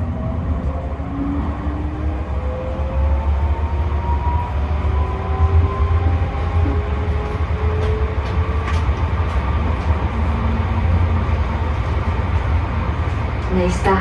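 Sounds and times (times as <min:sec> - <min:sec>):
tram rumbling: 0:00.0 - 0:14.0
wheels clicking on rails: 0:02.0 - 0:14.0.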